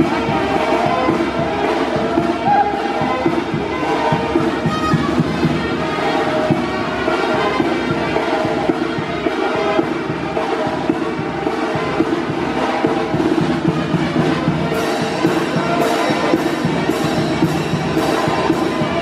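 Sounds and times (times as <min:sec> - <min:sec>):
brass band playing dance tune: 0:00.0 - 0:19.0.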